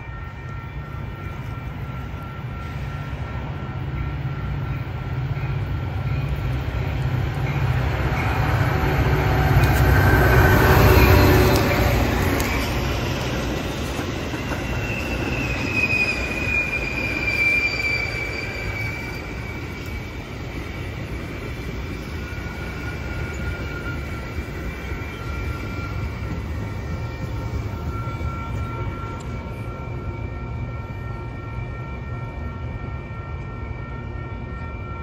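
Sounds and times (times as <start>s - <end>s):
steel wheels squealing on rails: 0.0s - 35.0s
train rumbling: 0.0s - 35.0s.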